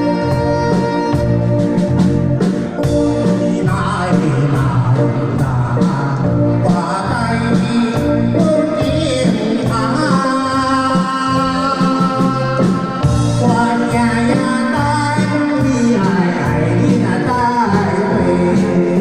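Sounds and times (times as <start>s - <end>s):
instrumental accompaniment with beat: 0.0s - 19.0s
person singing: 0.0s - 19.0s.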